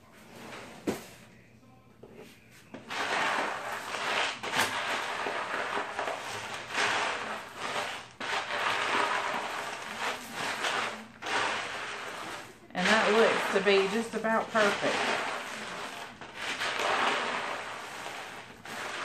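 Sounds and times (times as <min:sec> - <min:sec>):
spoon stirring dry cereal in tub: 0:02.3 - 0:19.0.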